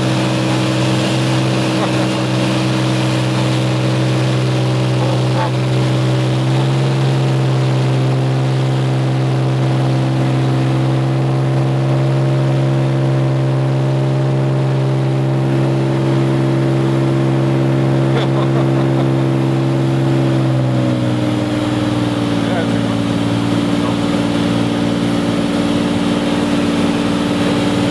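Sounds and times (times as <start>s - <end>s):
light aircraft engine droning: 0.0s - 27.9s.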